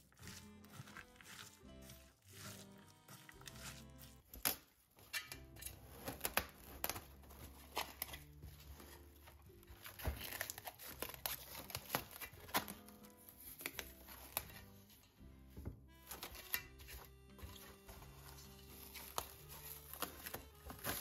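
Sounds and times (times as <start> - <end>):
cling film crinkling: 0.0 - 15.1, 16.0 - 21.0
soft background music: 0.0 - 21.0.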